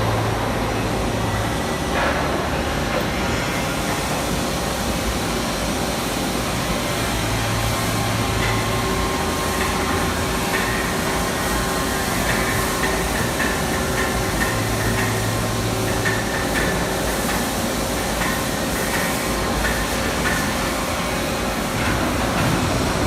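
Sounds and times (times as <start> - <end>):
machining center humming: 0.0 - 23.0.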